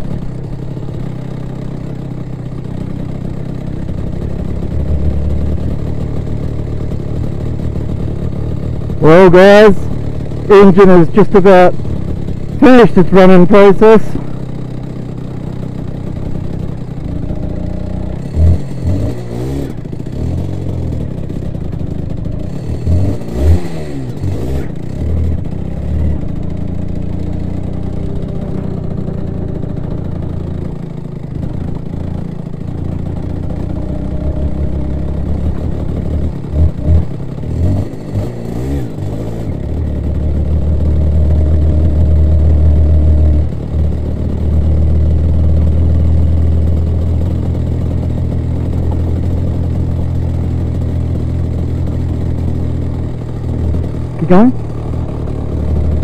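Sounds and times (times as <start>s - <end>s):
two-stroke kart engine: 0.0s - 56.0s
engine throttle blips: 3.1s - 56.0s.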